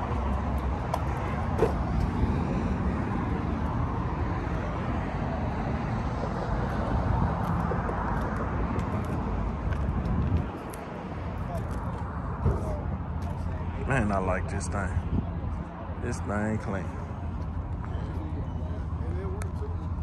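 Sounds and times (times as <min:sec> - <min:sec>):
low rumble of motor vehicles: 0:00.0 - 0:20.0.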